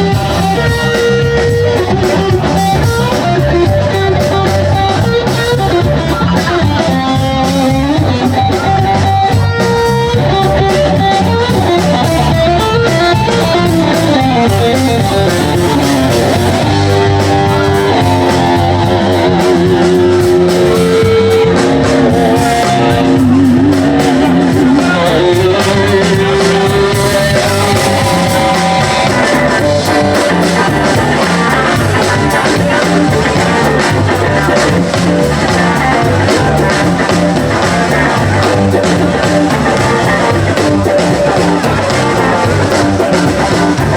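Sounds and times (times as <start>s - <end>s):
bass and drums: 0.0s - 43.9s
rock guitar melody: 0.0s - 43.9s.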